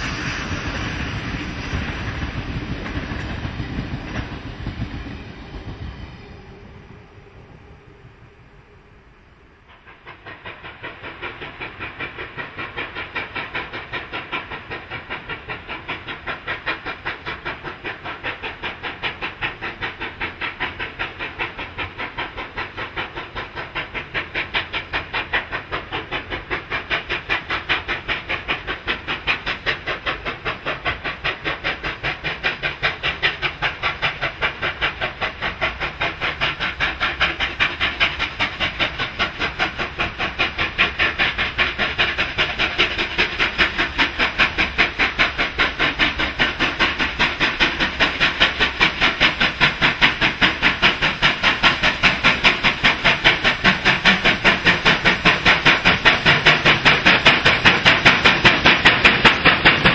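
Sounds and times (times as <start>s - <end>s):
steam locomotive exhaust beating: 0.0s - 59.9s.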